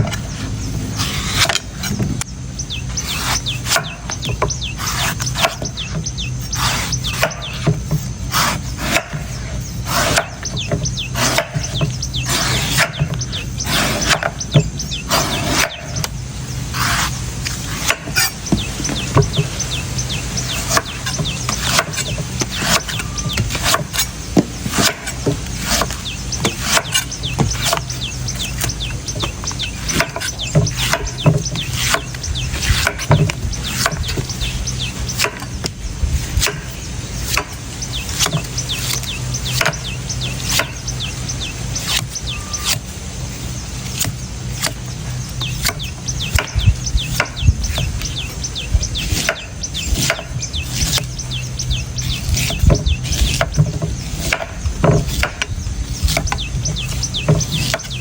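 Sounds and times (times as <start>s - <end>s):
knife chopping coconuts: 2.9s - 19.6s, 20.2s - 34.4s, 35.0s - 40.9s, 41.8s - 42.9s, 43.8s - 48.1s, 49.0s - 51.2s, 52.2s - 58.0s.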